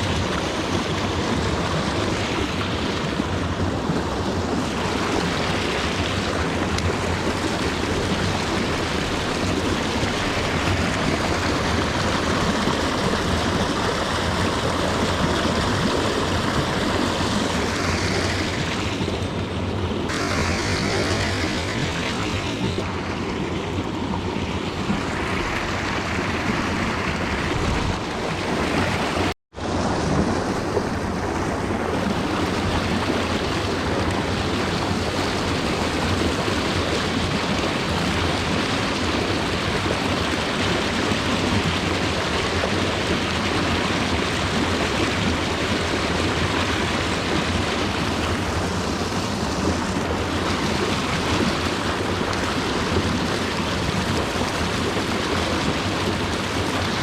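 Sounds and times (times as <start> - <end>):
rushing stream water: 0.0 - 57.0.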